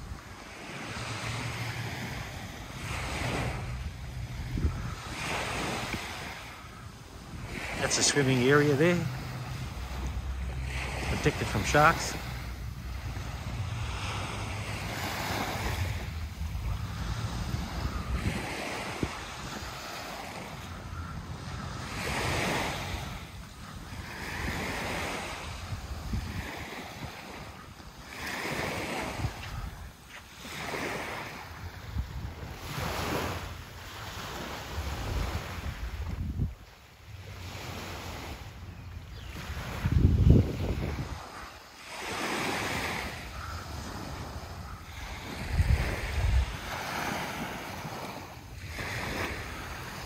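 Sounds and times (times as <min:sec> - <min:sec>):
wind buffeting microphone: 0:00.0 - 0:07.9, 0:08.8 - 0:33.6, 0:34.2 - 0:41.5, 0:43.4 - 0:50.0
small waves washing on shore: 0:00.0 - 0:50.0.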